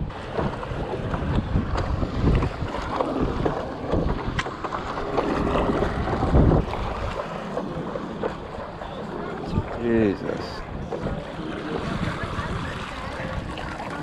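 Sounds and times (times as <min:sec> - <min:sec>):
water splashing from paddle strokes: 0:00.0 - 0:14.0
wind buffeting microphone: 0:00.0 - 0:14.0.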